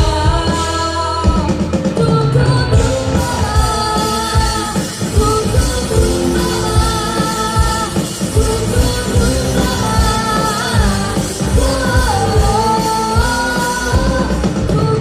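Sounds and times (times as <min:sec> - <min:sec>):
drum kit steady beat: 0:00.0 - 0:15.0
live rock band playing: 0:00.0 - 0:15.0
person singing: 0:00.0 - 0:15.0.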